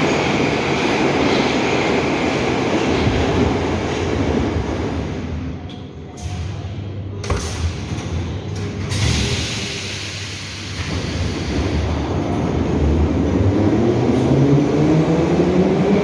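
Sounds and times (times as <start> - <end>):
metro train rumbling: 0.0 - 16.0.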